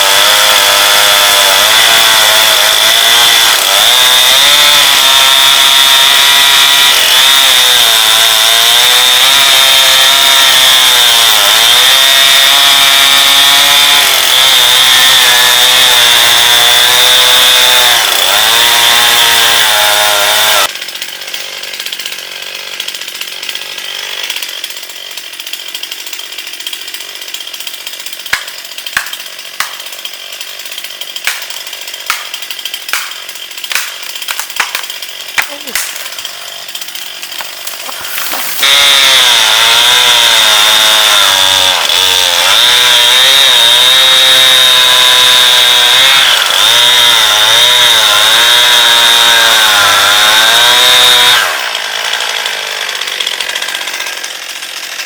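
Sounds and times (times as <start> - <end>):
chainsaw cutting a tree: 0.0 - 55.0.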